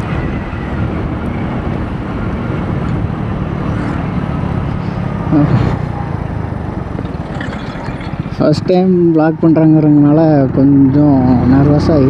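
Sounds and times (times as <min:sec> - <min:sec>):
wind noise: 0:00.0 - 0:10.6
road noise: 0:00.0 - 0:12.0.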